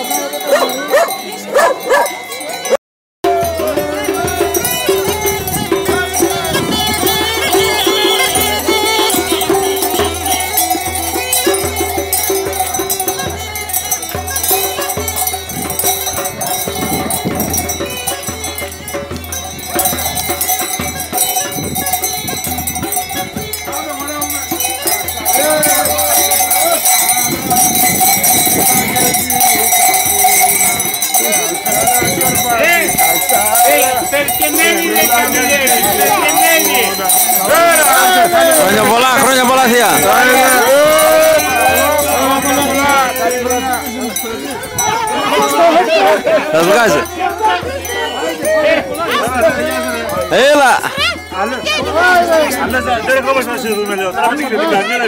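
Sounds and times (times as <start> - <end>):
live folk music: 0.0 - 55.0.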